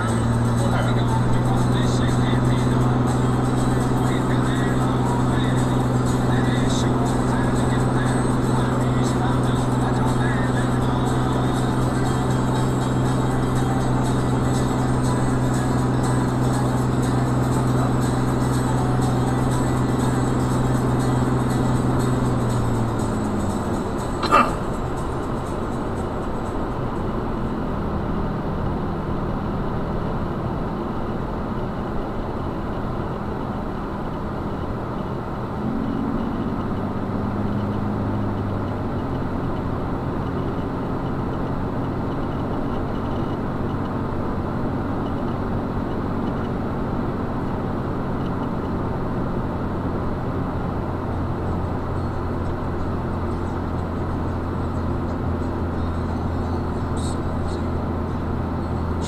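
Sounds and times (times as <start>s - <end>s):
engine hum: 0.0s - 59.0s
tyre and road noise: 0.0s - 59.0s.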